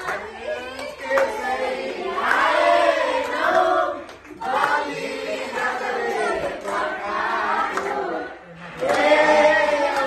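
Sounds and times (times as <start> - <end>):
group of people singing: 0.0 - 10.0.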